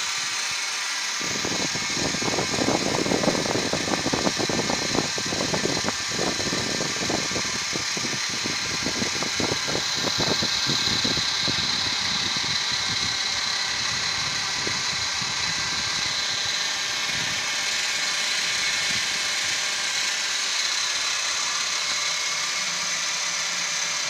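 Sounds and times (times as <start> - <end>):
toy helicopter motor whine: 0.0 - 24.0.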